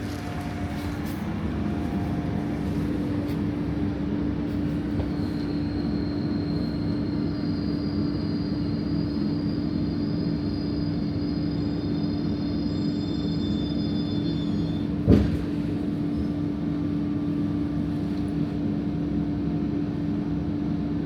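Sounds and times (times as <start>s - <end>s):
train rumbling on board: 0.0s - 21.0s.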